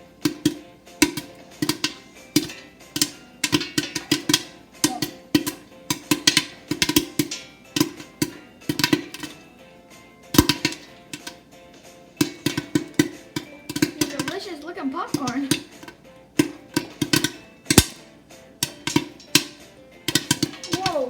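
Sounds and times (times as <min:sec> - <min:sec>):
popcorn popping in oil: 0:00.0 - 0:21.0.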